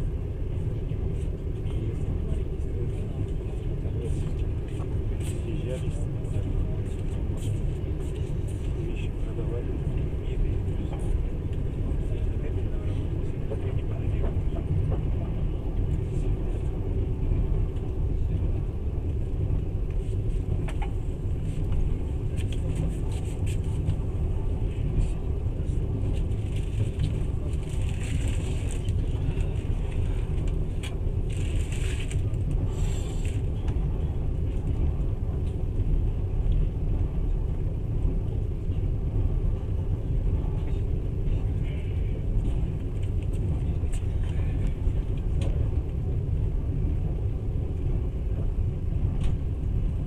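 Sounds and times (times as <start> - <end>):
train rumbling inside carriage: 0.0 - 50.0.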